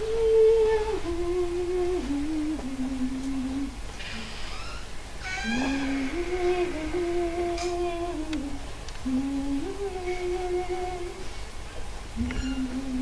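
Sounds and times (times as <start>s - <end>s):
woman humming a slow tune: 0.0s - 3.8s, 5.2s - 11.2s, 12.2s - 13.0s.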